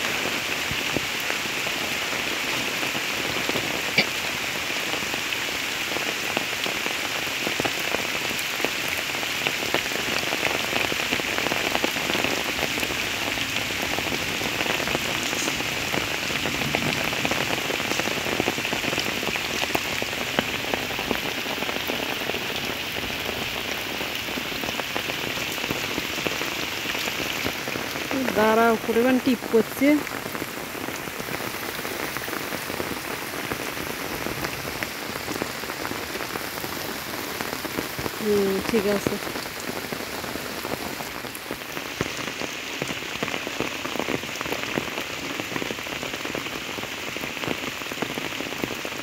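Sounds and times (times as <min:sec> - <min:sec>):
rain falling on leaves: 0:00.0 - 0:49.0
sharp water drips: 0:00.3 - 0:44.8.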